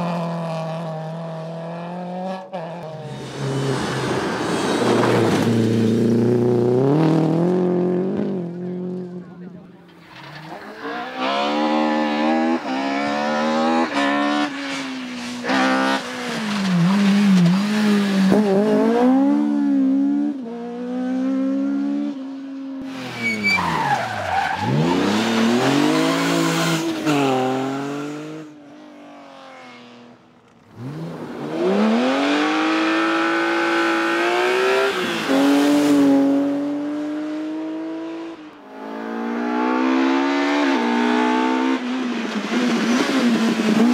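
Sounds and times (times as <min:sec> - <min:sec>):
rally car engine revving: 0:00.0 - 0:22.1, 0:23.7 - 0:28.6, 0:29.3 - 0:43.9.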